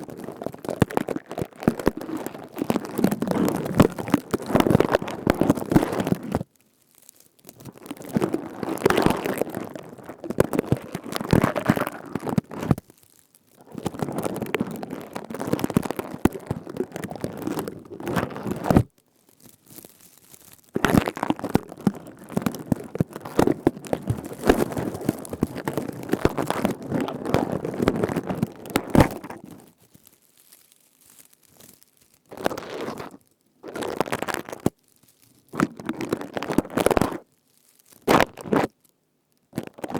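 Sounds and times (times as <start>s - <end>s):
grass leaves rustling and crackling: 0.0s - 36.8s.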